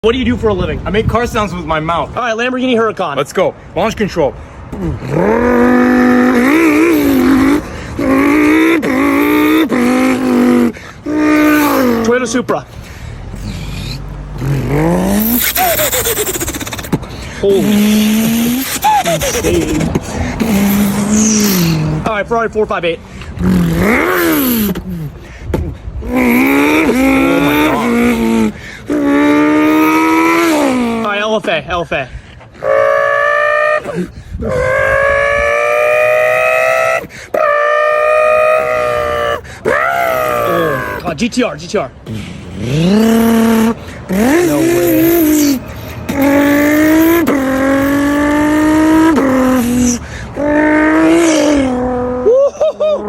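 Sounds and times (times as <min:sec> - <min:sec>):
man imitating engine revving: 0:04.6 - 0:31.7, 0:32.5 - 0:53.0.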